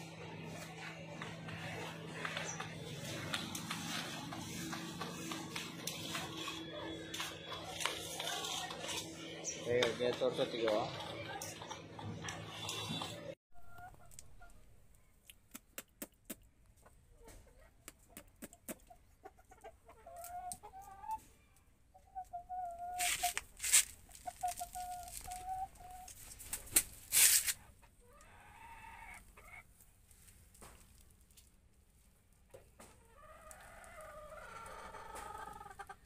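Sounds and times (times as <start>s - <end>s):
chickens clucking: 0.1s - 14.7s, 16.8s - 27.0s, 27.6s - 29.9s, 32.5s - 36.0s.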